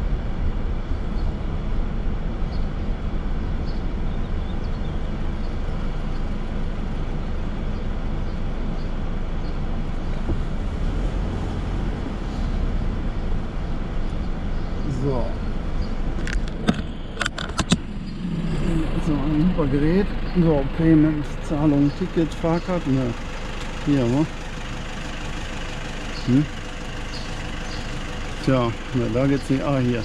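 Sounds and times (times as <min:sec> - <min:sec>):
truck engine and tyre rumble: 0:00.0 - 0:30.0.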